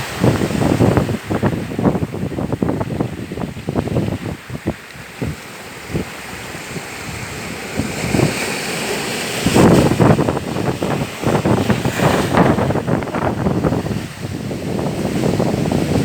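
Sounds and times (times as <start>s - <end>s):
steady rushing noise: 0.0s - 16.0s
wind buffeting microphone: 0.0s - 16.0s.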